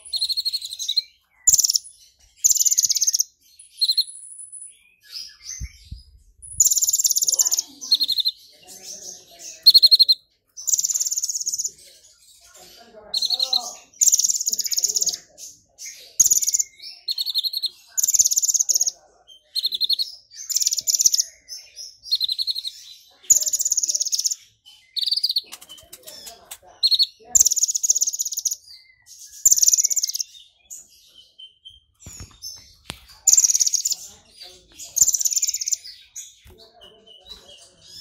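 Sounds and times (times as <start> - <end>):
bird twittering trills: 0.0 - 38.0.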